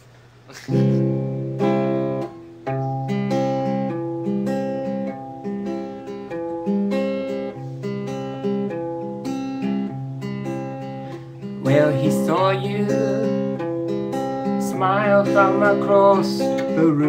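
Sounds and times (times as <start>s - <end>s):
acoustic guitar chords: 0.5s - 17.0s.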